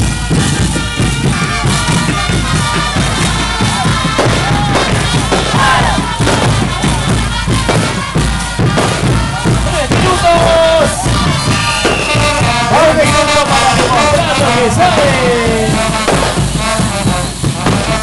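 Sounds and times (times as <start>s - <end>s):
drum beat thumping: 0.0s - 18.0s
live band playing: 0.0s - 18.0s.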